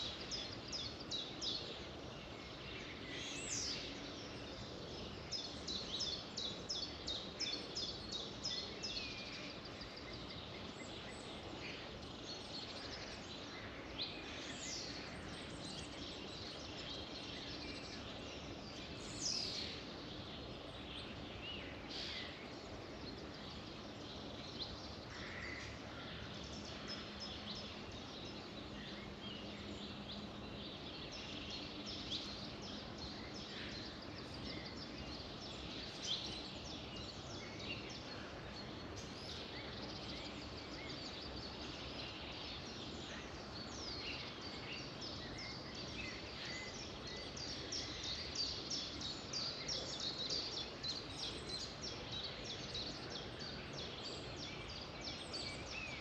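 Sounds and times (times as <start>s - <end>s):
background hiss: 0.0s - 56.0s
wild birds singing: 0.0s - 56.0s.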